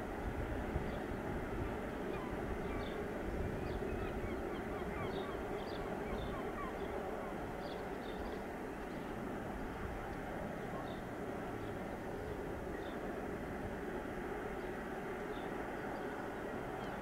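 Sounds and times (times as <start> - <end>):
distant freight train rolling: 0.0 - 17.0.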